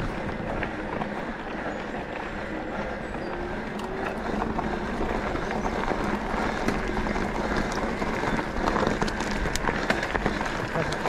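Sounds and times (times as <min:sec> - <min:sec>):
wind rush on microphone: 0:00.0 - 0:10.8
gravel and bike rattles: 0:00.0 - 0:11.0
tyre noise on dirt: 0:00.0 - 0:11.0.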